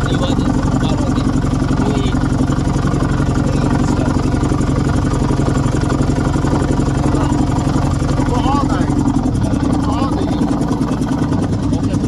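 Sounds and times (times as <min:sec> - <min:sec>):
boat motor puttering: 0:00.0 - 0:12.0.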